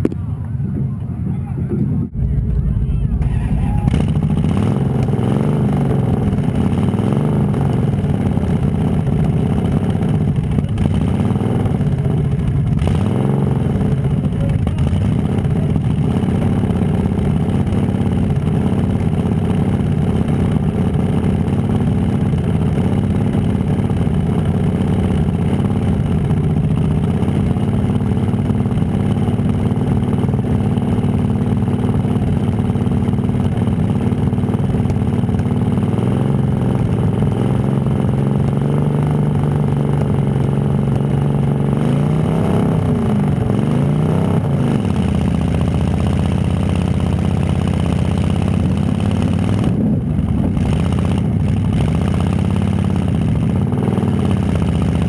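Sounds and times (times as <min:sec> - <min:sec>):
car engine idling: 0:00.0 - 0:41.9, 0:42.7 - 0:55.0.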